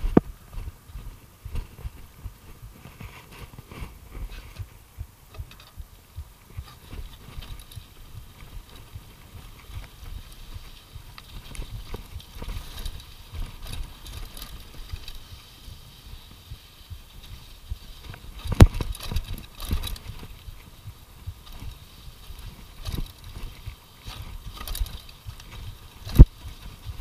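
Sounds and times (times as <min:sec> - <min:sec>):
bike rattling over rough trail: 0:00.0 - 0:27.0.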